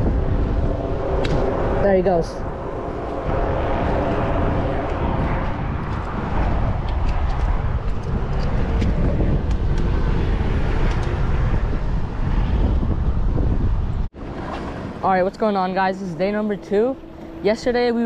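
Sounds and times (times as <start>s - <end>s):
passing road traffic: 0.0s - 18.0s
wind: 0.0s - 18.0s.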